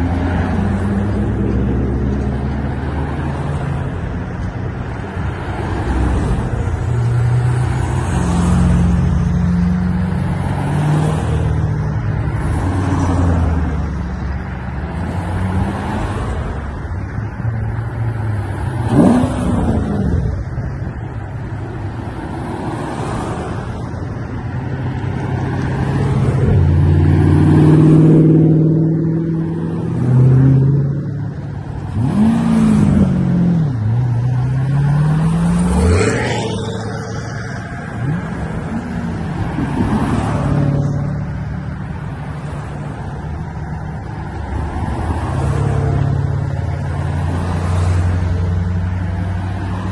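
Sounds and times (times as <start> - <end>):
car engines driving by: 0.0 - 49.9.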